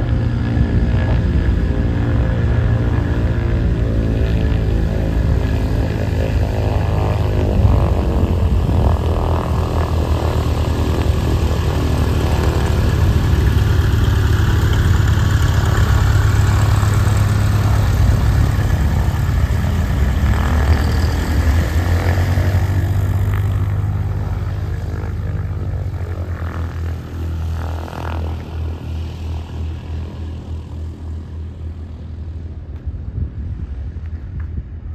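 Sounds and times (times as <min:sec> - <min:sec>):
propeller plane engines taxiing: 0:00.0 - 0:34.9.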